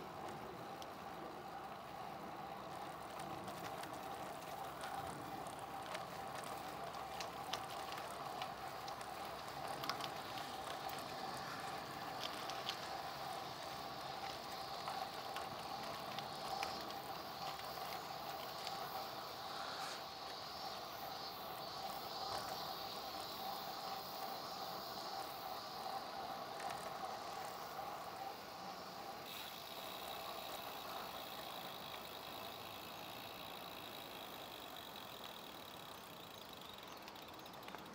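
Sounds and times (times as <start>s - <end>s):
bike tyres rolling on asphalt: 0.0s - 37.9s
small clicks and crackles: 0.0s - 37.9s.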